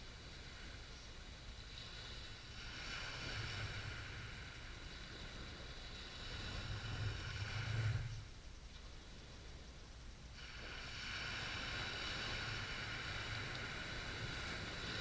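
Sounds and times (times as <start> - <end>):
small waves breaking on beach: 0.0 - 9.6, 10.3 - 15.0.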